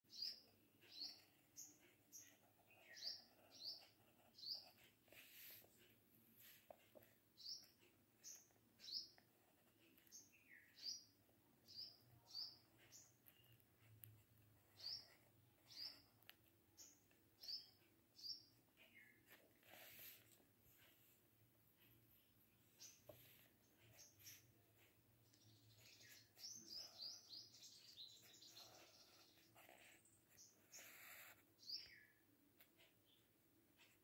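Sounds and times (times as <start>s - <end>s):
small bird chirping: 0.1s - 34.0s.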